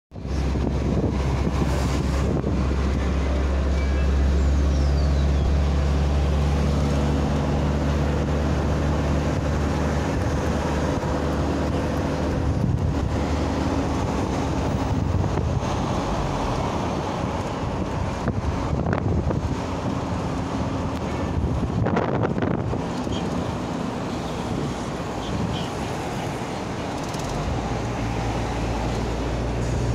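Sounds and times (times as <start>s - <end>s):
wind buffeting microphone: 0.1s - 4.3s, 7.5s - 29.9s
traffic rumble: 0.1s - 29.9s.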